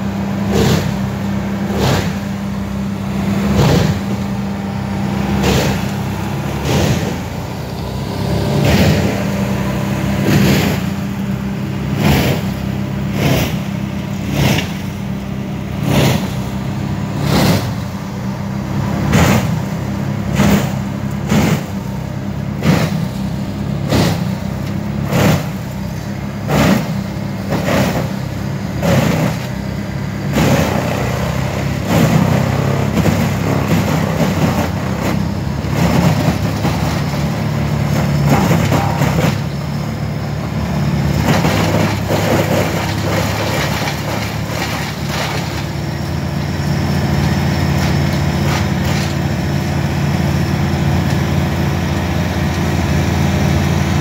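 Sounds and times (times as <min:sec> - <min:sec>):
chipper grinding a log: 0:00.0 - 0:54.0
skid steer engine: 0:00.0 - 0:54.0
wood chipper engine: 0:00.0 - 0:54.0.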